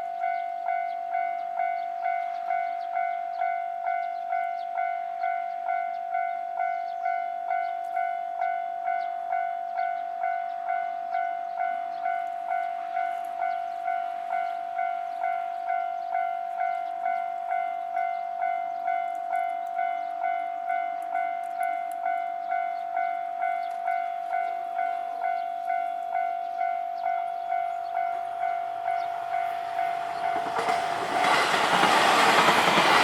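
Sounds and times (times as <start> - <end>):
level-crossing warning bell ringing: 0.0 - 33.0.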